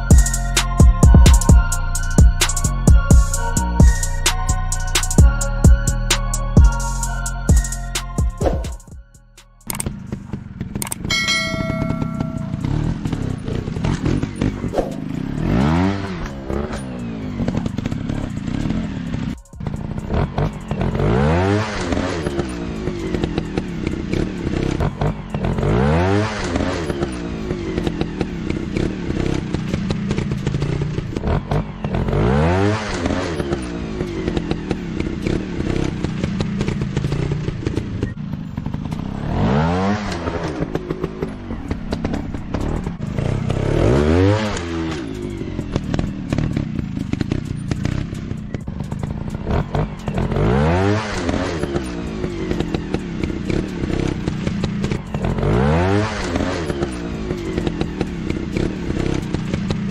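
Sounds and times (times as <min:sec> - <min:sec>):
engine drone: 0:00.0 - 0:59.9
dirt bike engine revving: 0:09.6 - 0:59.9.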